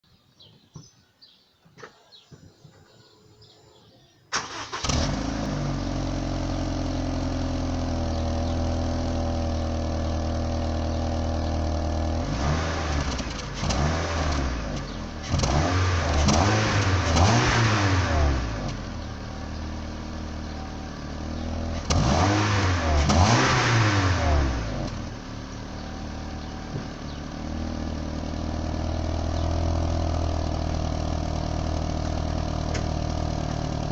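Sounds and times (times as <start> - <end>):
car engine starting: 4.3 - 33.9
car engine idling: 4.4 - 33.9
car engine revving: 4.4 - 33.9.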